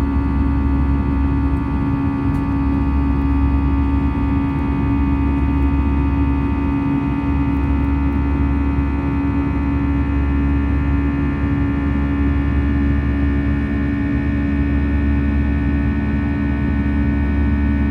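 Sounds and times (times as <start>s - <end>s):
airplane cabin engine drone: 0.0s - 17.9s.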